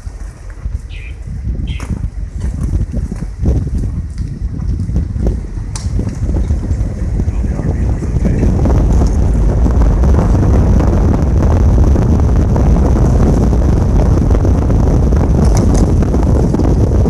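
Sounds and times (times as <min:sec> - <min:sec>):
vehicle rumble on road: 0:00.0 - 0:17.0
wind buffeting microphone: 0:00.0 - 0:17.0.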